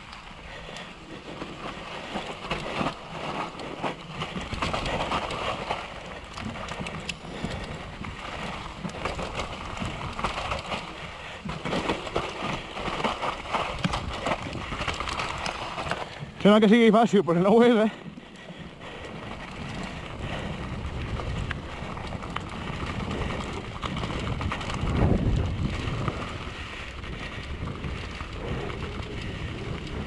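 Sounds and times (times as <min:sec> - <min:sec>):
bike rattling and knocking: 0:00.0 - 0:30.0
bike tyres on dirt and stones: 0:00.0 - 0:30.0.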